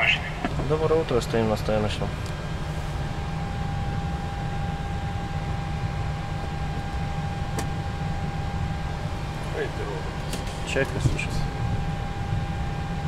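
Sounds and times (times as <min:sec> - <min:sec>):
fan and air-conditioning hiss: 0:00.0 - 0:13.0
thin steady whine: 0:00.0 - 0:13.0.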